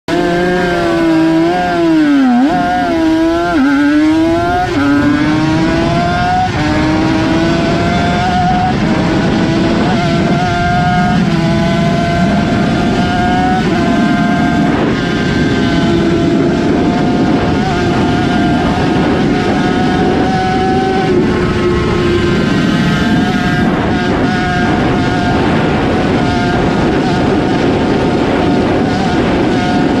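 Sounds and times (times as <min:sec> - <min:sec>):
racing motorcycle engine revving: 0:00.1 - 0:30.0.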